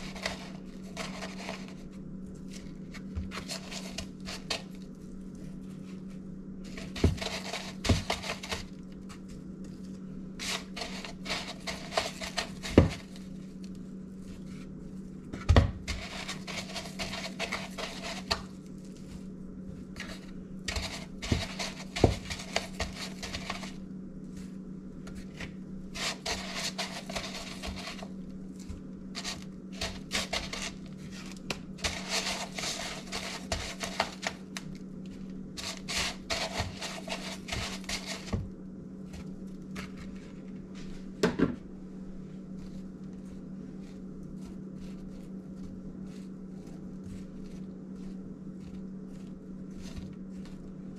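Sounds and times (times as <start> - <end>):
breadcrumbs rustling in plastic bowl: 0.0 - 41.2, 42.2 - 50.9
steady low hum: 0.0 - 50.9.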